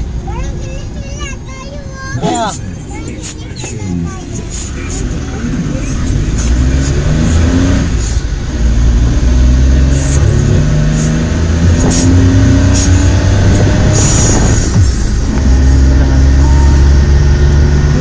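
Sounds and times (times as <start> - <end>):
road noise: 0.0 - 18.0
vehicle engine running: 0.0 - 18.0.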